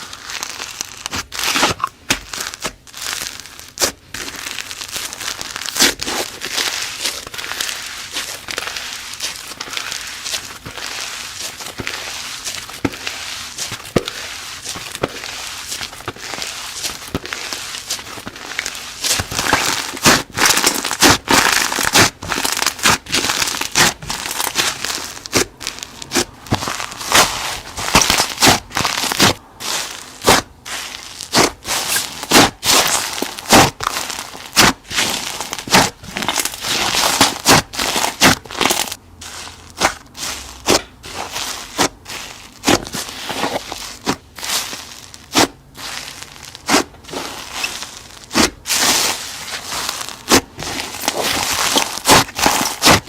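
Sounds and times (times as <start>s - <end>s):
slime crackling and popping: 0.0s - 53.0s.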